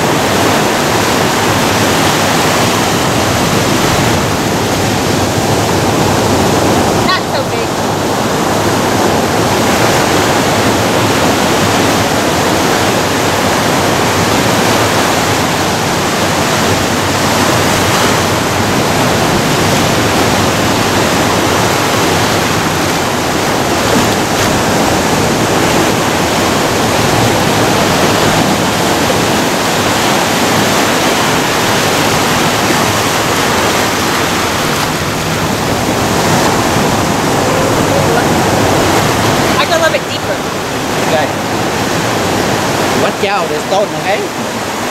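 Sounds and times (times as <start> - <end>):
ocean waves breaking: 0.0 - 44.9.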